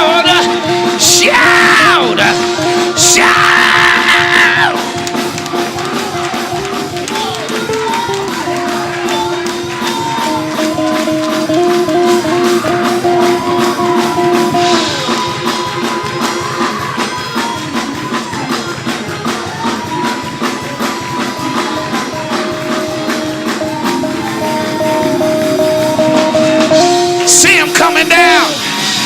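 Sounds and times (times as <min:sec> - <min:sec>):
held keyboard chords: 0:00.0 - 0:29.0
quick drum beat: 0:00.0 - 0:29.0.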